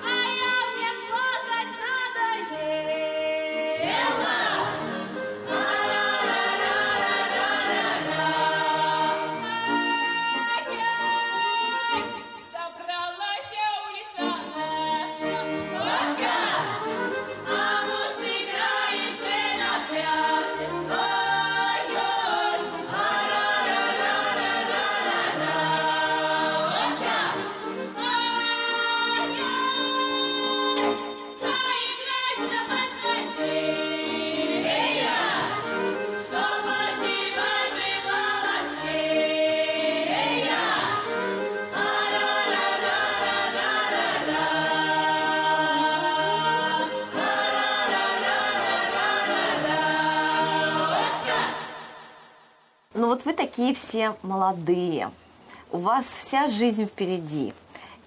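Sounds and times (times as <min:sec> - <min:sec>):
group singing a cappella: 0:00.0 - 0:12.0, 0:14.2 - 0:52.6.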